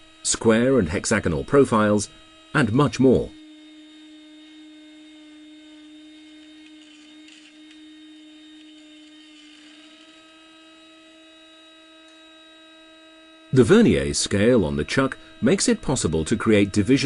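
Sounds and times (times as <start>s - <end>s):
milling machine motor humming: 0.0s - 17.0s.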